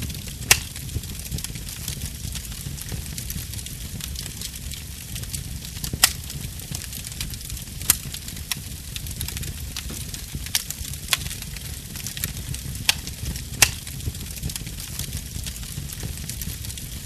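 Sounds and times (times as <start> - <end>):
steady low rumble: 0.0 - 17.0
wood fire crackling and popping: 0.0 - 17.0.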